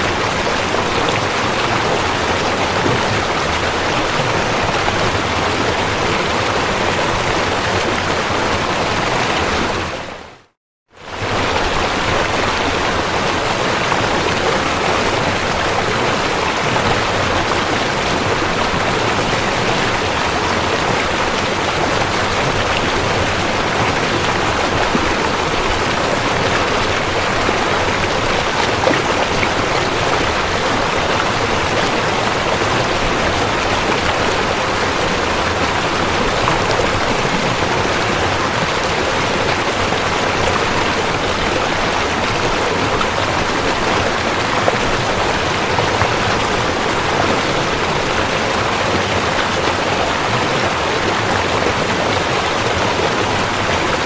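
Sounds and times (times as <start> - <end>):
river water rushing: 0.0 - 10.4, 11.0 - 54.0.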